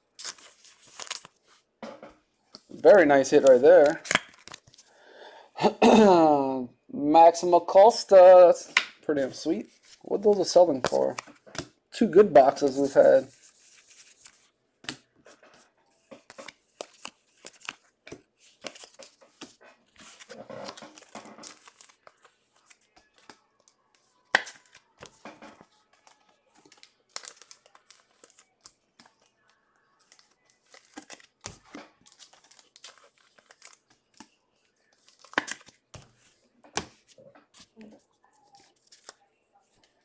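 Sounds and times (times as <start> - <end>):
trading cards crinkling and rustling: 0.0 - 1.7, 2.4 - 4.9, 8.2 - 11.8, 12.4 - 40.0.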